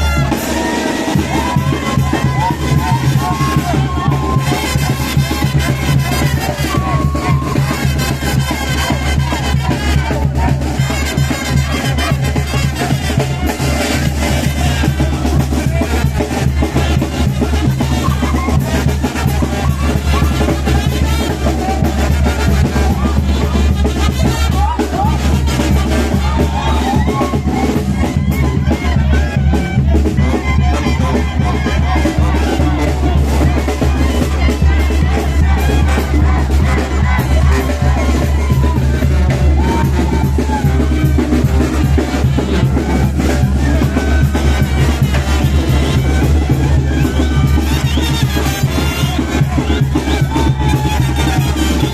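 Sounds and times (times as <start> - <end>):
bass drum beating: 0.0 - 51.9
snare drum beating: 0.0 - 51.9
street band dance music: 0.0 - 51.9.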